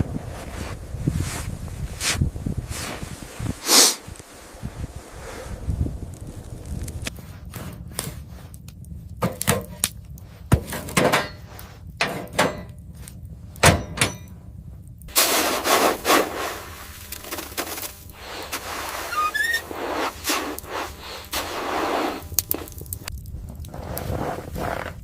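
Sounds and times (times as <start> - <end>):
scraping and crunching: 0.0 - 25.0.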